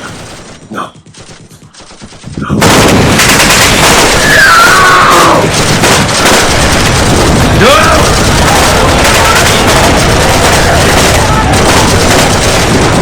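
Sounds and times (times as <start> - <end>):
gunfire: 0.0 - 13.0.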